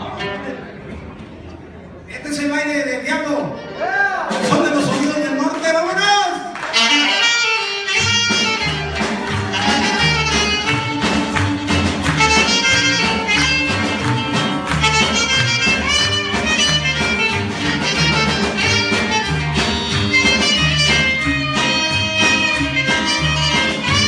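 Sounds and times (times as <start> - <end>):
band playing instrumental music: 3.5 - 6.0, 6.6 - 24.0.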